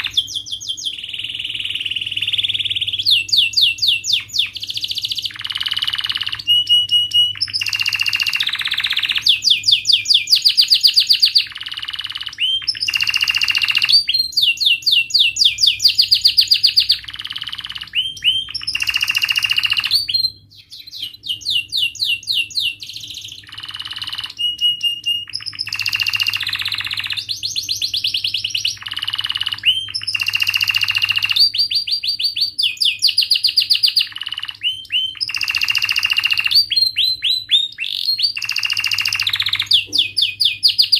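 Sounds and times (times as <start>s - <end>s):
canary singing trills and chirps: 0.0s - 40.9s.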